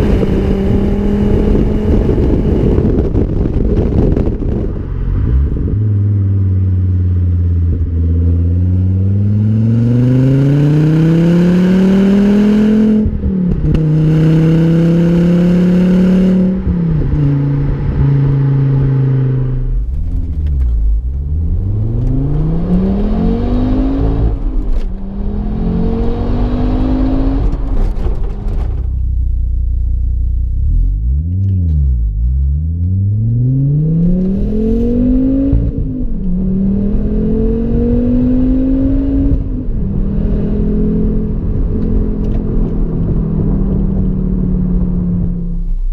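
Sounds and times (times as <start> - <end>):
car engine accelerating through gears: 0.0 - 29.3, 30.2 - 45.9.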